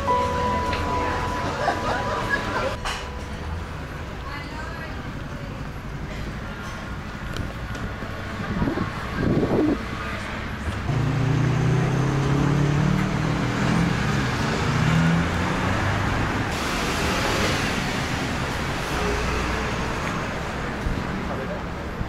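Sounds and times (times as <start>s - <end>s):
vehicle engine humming: 0.0s - 21.0s
rush of passing traffic: 0.0s - 22.0s.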